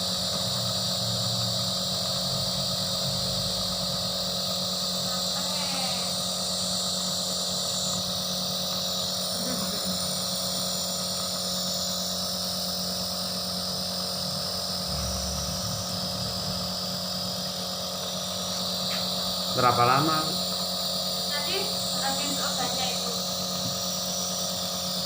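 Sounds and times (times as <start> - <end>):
nebulizer compressor humming: 0.0 - 25.0.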